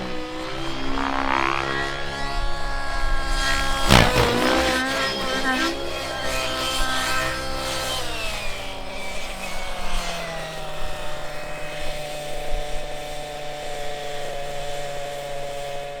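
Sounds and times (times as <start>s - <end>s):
model helicopter nitro engine: 0.0s - 16.0s.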